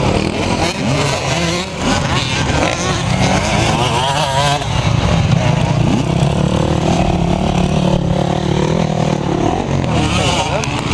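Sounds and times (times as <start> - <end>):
motocross motorcycle engines: 0.0 - 10.9.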